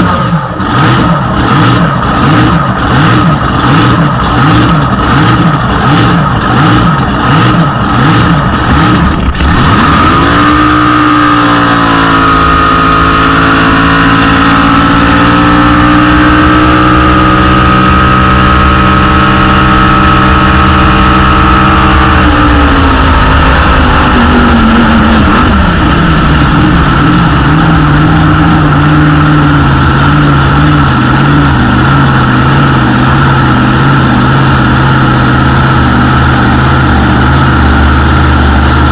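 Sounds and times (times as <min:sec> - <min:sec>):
boat engine revving: 0:00.0 - 0:38.9.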